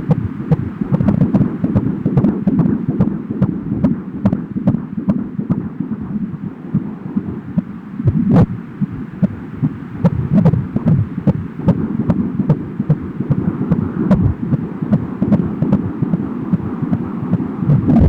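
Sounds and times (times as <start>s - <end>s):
fetal heartbeat pulsing: 0.0s - 18.0s.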